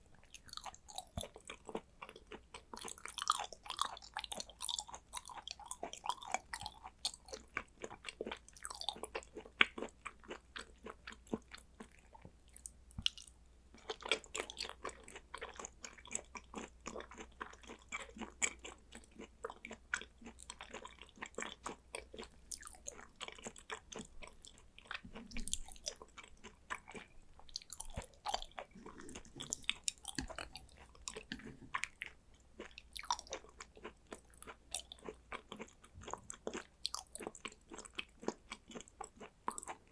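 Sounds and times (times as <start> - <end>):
close chewing and biting: 0.0 - 39.9.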